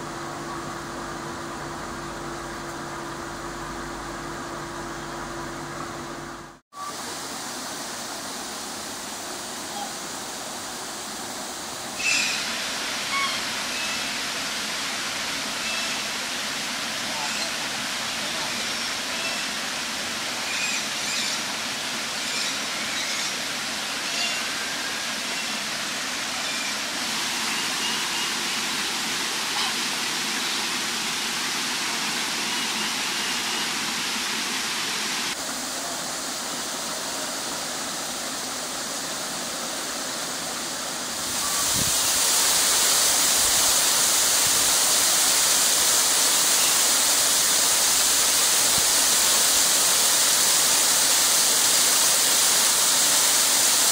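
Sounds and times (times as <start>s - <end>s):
rushing falling water: 0.0s - 53.9s.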